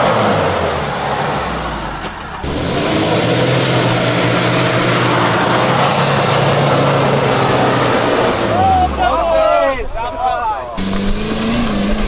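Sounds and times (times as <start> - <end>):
off-road vehicle engine running: 0.0 - 10.0, 10.6 - 12.0.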